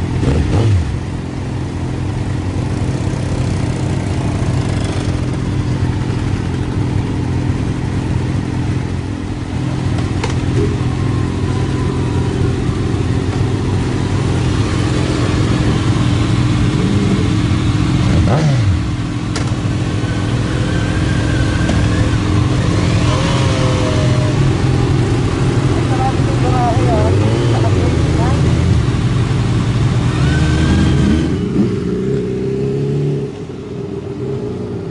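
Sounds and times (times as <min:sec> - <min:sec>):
vehicle engine and road drone: 0:00.0 - 0:34.9.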